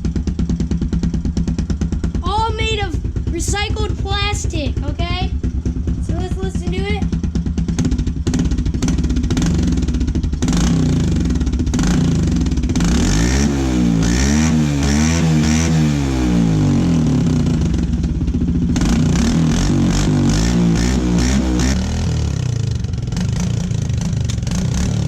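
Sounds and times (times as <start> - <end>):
dirt bike engine revving: 2.2 - 25.0.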